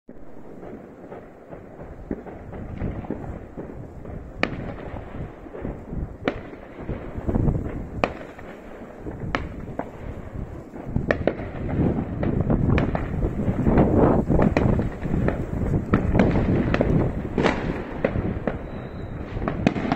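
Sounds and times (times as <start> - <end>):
fireworks rumble of bangs: 0.1 - 19.9.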